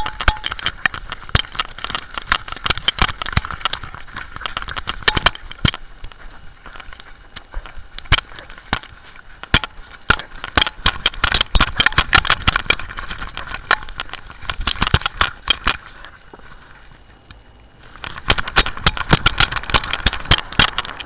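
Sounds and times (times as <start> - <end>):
camera housing knocking and rattling: 0.0 - 16.6, 17.8 - 21.0.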